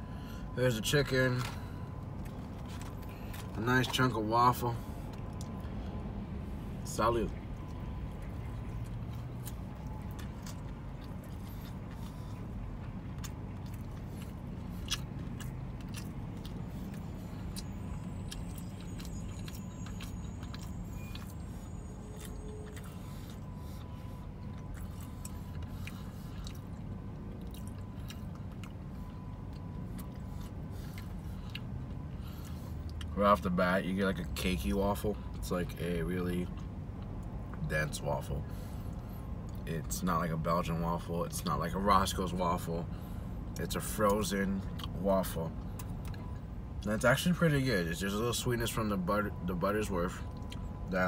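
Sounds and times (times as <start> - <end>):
car interior hum: 0.0 - 51.0
chewing crispy food: 0.4 - 51.0.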